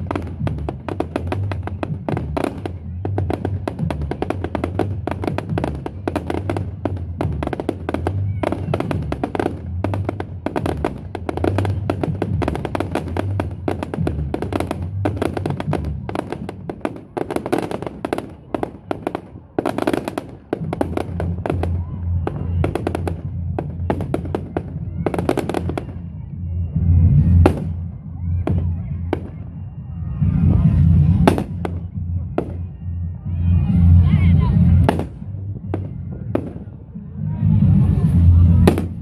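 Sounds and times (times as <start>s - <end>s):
fireworks bangs and crackles: 0.0s - 39.0s
music playing: 0.0s - 39.0s.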